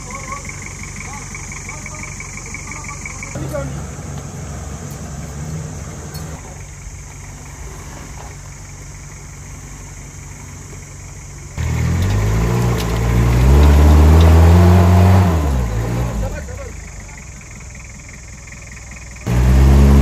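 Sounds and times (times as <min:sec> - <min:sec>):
jeep engine revving: 0:00.0 - 0:20.0.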